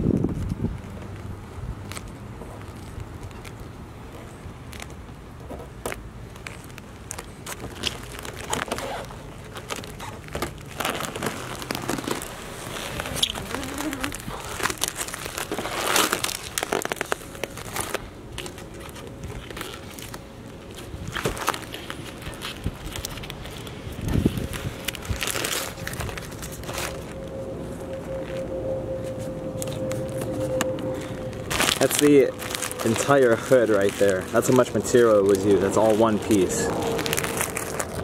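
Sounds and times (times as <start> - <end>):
plastic film crackling: 0.2 - 38.0.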